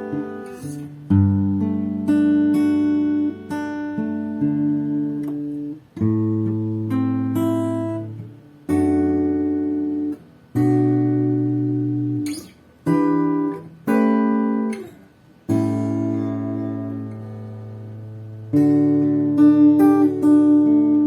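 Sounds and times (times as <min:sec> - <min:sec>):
acoustic guitar strummed chords: 0:00.0 - 0:21.0.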